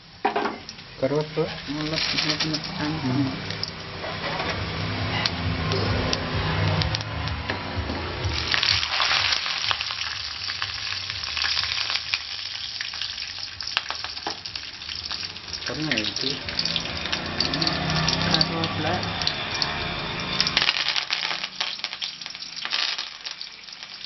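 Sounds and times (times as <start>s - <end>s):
seeds sizzling in hot oil: 0.0s - 6.3s, 8.3s - 24.0s.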